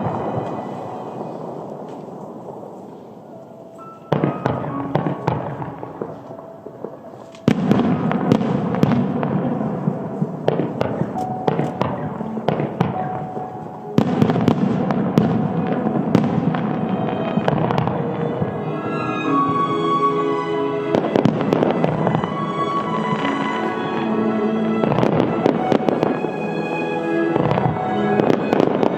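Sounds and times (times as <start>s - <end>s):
loud firework bursts: 0.0s - 3.4s, 4.0s - 28.9s.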